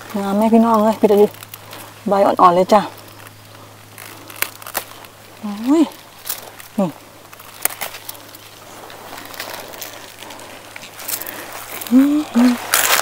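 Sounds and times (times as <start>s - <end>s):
rustling and crackling: 0.0s - 13.0s.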